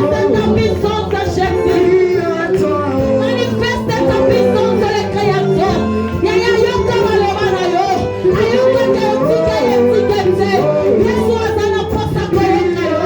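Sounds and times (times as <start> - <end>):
instrumental accompaniment with bass: 0.0 - 13.0
people singing worship song: 0.0 - 13.0.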